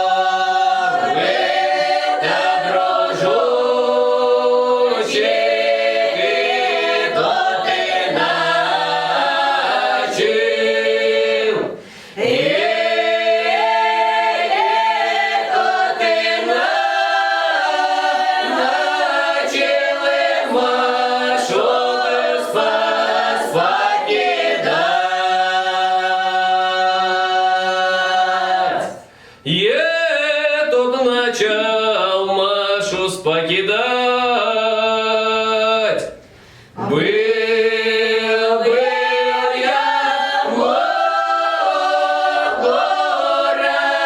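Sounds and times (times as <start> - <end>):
folk choir singing a cappella: 0.0 - 36.2, 36.8 - 44.0.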